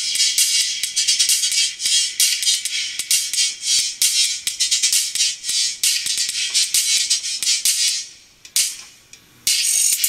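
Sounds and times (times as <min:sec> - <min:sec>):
tinny music from a tweeter: 0:00.0 - 0:10.0.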